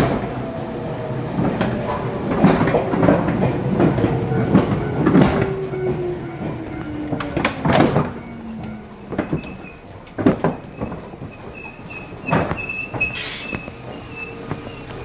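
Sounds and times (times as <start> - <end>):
train motor hum: 0.0 - 15.0
wheel clacks over rail joints: 0.0 - 15.0.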